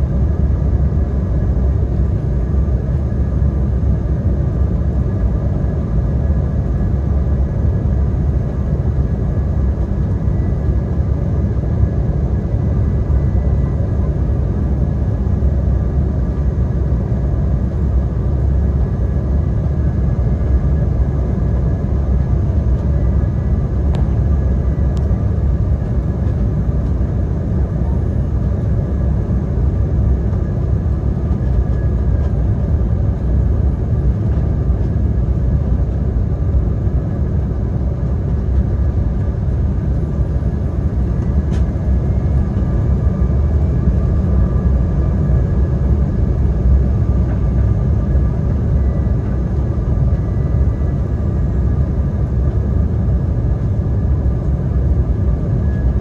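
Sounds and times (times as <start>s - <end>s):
airliner cabin rumble: 0.0s - 56.0s
faint steady whining tones: 0.0s - 56.0s.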